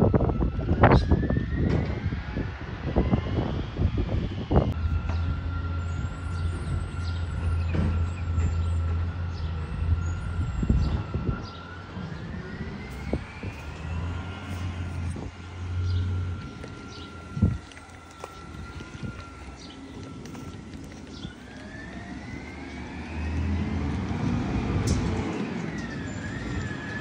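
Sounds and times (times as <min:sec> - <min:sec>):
high whine: 0:00.0 - 0:27.0
diesel truck engine running: 0:02.8 - 0:27.0.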